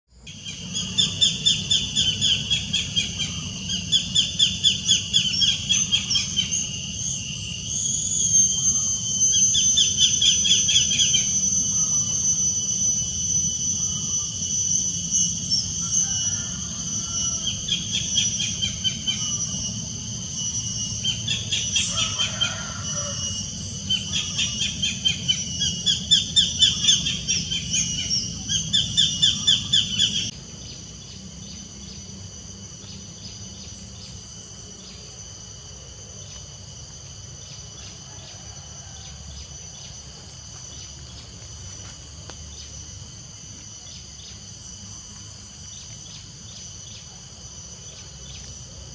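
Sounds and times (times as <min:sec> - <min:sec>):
high insect drone: 0:00.1 - 0:48.9.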